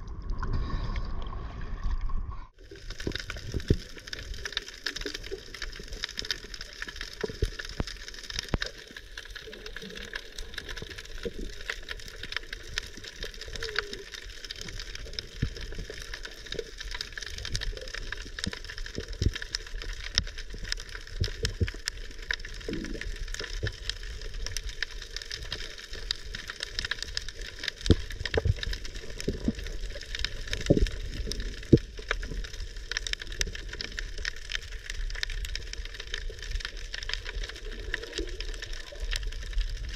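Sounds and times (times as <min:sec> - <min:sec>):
underwater crackling hiss: 0:02.6 - 0:39.9.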